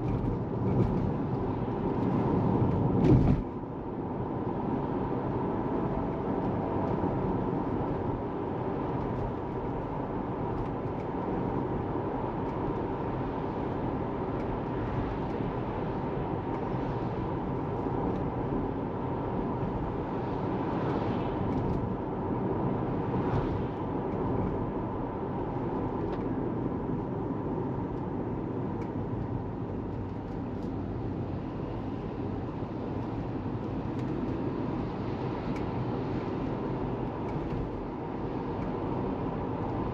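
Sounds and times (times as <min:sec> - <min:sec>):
car tyre and road noise: 0:00.0 - 0:39.9
passing traffic: 0:00.0 - 0:39.9.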